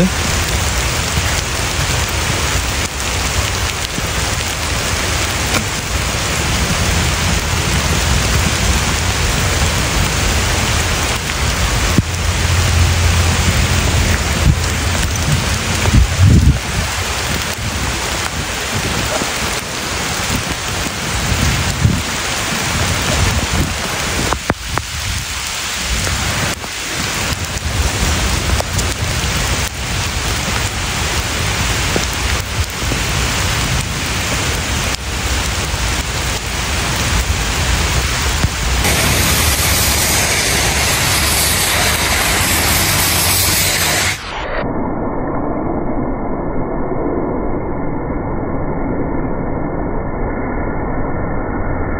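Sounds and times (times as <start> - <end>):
water running along gutter: 0.0 - 44.2
heavy rain on pavement: 0.0 - 44.5.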